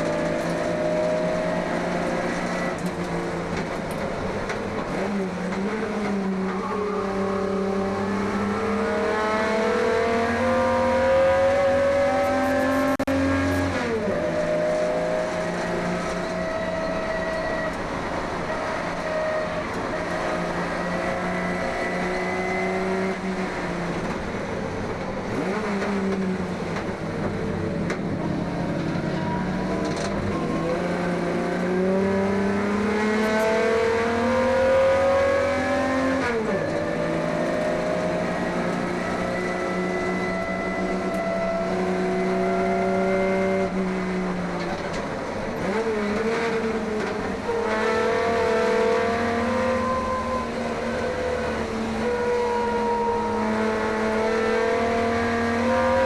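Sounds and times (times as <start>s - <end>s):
race car engine accelerating: 0.0s - 17.4s, 18.8s - 56.0s.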